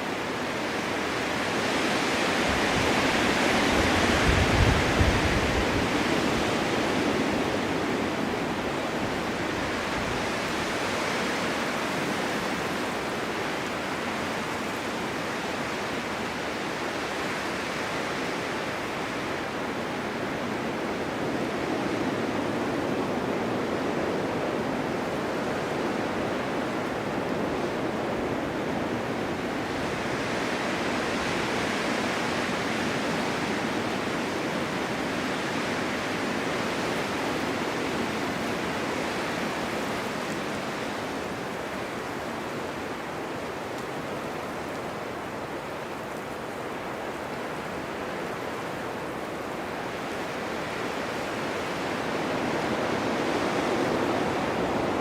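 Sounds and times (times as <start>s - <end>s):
blizzard wind gusting: 0.0s - 55.0s.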